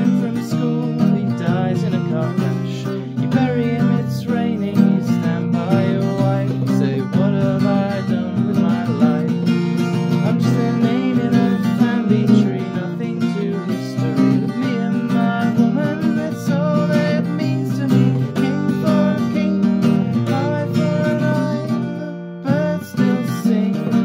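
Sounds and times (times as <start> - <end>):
acoustic guitar strumming: 0.0 - 24.0
man singing: 0.0 - 24.0.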